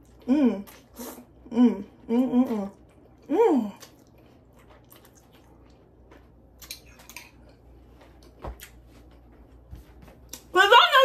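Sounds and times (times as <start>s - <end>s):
person chewing noodles: 0.0s - 9.3s.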